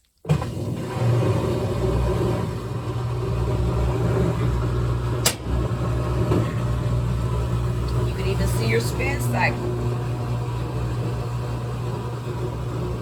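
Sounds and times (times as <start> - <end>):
washing machine motor hum: 0.2 - 13.0.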